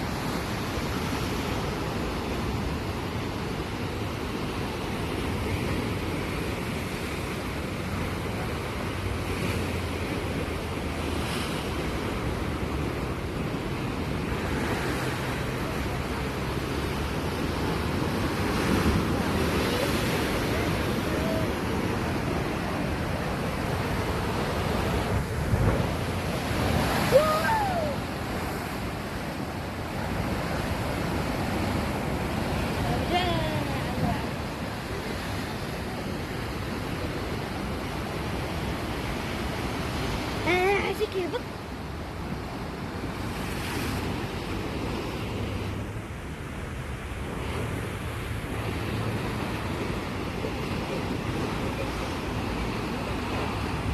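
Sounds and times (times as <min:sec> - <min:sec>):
sea waves breaking on shore: 0:00.0 - 0:53.9.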